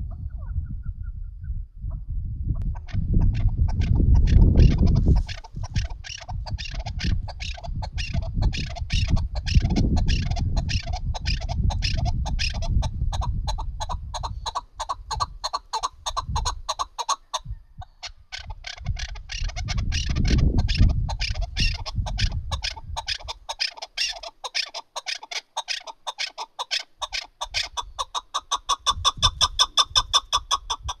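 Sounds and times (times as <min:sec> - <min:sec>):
partridge clucking calls: 0:02.6 - 0:31.0.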